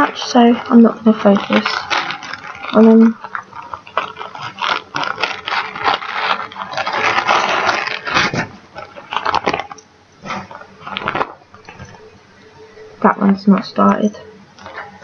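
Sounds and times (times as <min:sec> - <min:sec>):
plastic bags rustling and crinkling: 0:00.0 - 0:12.1, 0:14.6 - 0:15.0.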